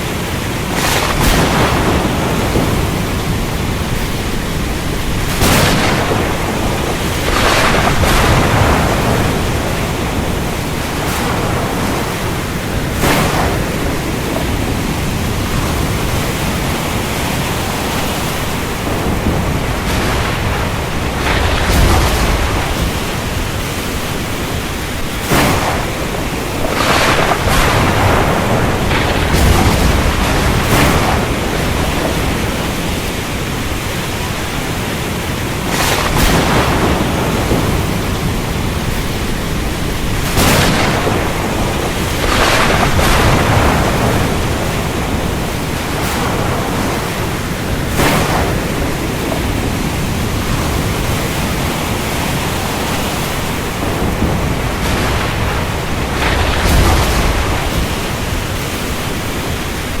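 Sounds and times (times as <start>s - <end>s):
rain falling: 0.0s - 60.0s
thunder rumbling: 0.0s - 60.0s.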